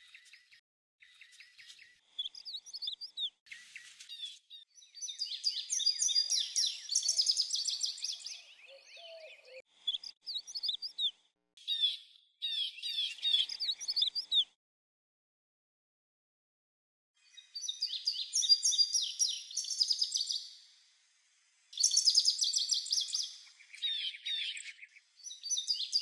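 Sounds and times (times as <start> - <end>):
songbirds chirping: 0.0 - 14.6, 17.2 - 26.0.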